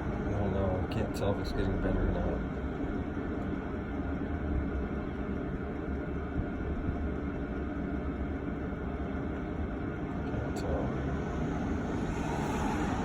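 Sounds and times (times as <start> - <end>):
diesel heater rumbling: 0.0 - 13.0.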